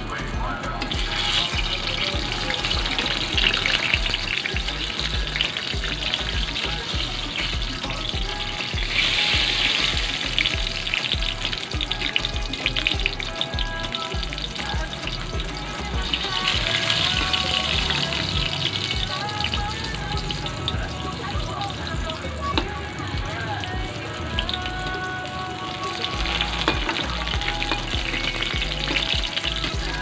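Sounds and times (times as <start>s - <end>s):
eggplant sizzling in oil: 0.4s - 30.0s.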